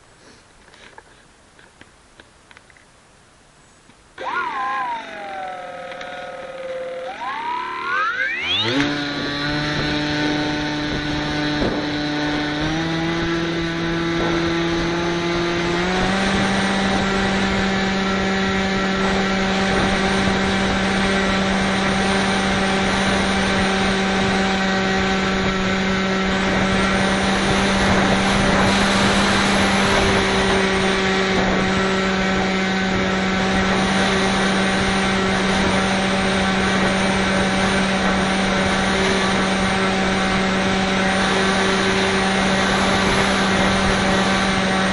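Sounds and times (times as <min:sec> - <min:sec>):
electric motor and propeller whining: 0:04.2 - 0:44.9
wind on microphone: 0:08.4 - 0:44.9.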